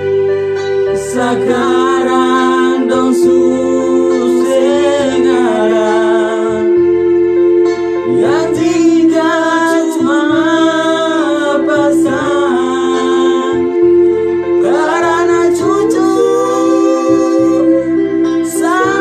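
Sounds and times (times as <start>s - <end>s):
instrumental accompaniment: 0.0s - 19.0s
person singing: 0.8s - 19.0s.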